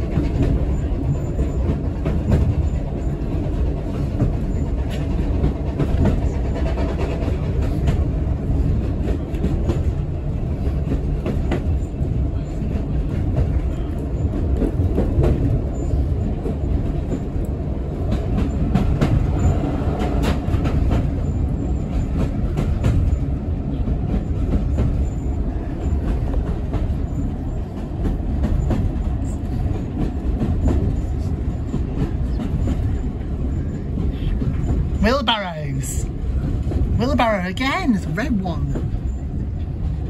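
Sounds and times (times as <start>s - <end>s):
train coaches rumbling: 0.0s - 40.0s.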